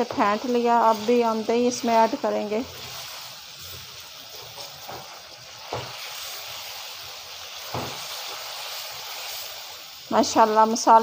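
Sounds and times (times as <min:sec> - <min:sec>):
food sizzling in a metal pan: 0:00.0 - 0:11.0.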